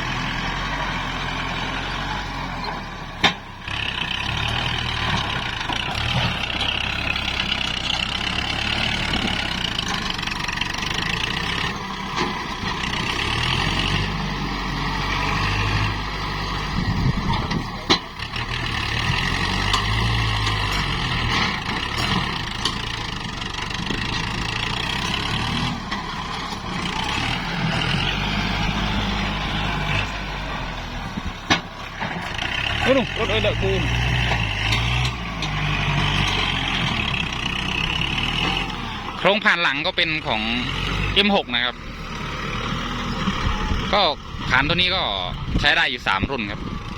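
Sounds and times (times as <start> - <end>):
tractor diesel engine droning: 0.0 - 46.9.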